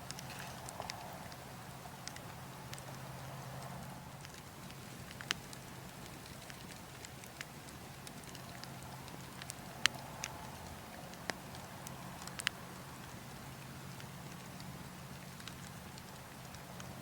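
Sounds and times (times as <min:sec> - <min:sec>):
burning logs crackling and popping: 0:00.0 - 0:17.0.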